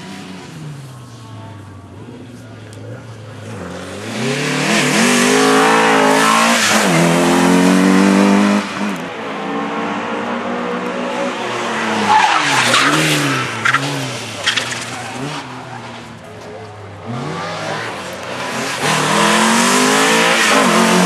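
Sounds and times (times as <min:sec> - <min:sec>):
rally car engine at full throttle: 0:00.0 - 0:21.0
tyres skidding: 0:00.0 - 0:21.0.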